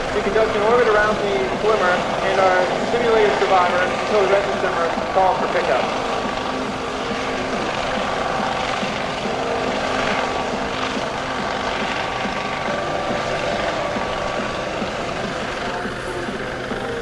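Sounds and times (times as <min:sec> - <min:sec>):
helicopter rotor and turbine whine: 0:00.0 - 0:17.0.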